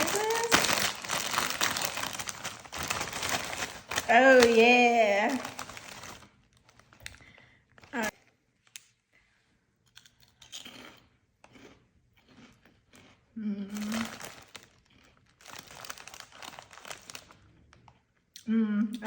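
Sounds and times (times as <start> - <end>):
crunchy chips being eaten: 0.0 - 8.2, 9.9 - 18.0
snack bag crinkling: 0.0 - 8.7, 10.0 - 18.0.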